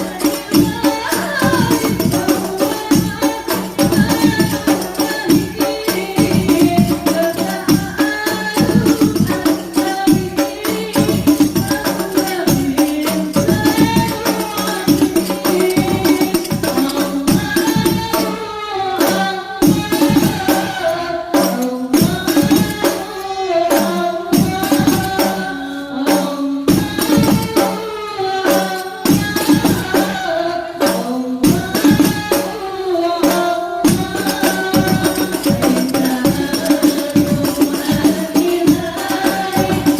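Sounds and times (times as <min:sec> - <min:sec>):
frame drums beating: 0:00.0 - 0:23.2, 0:23.8 - 0:25.5, 0:26.2 - 0:39.9
voices singing together: 0:00.0 - 0:39.9.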